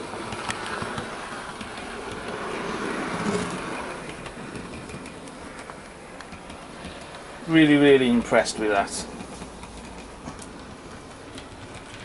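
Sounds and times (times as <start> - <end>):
model train motor humming: 0.0 - 12.0.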